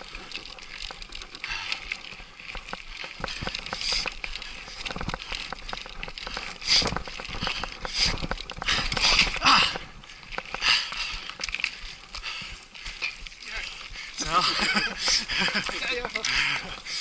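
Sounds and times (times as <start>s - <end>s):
bike rattling and clattering: 0.0s - 17.0s
tyres crunching over stones: 0.0s - 17.0s.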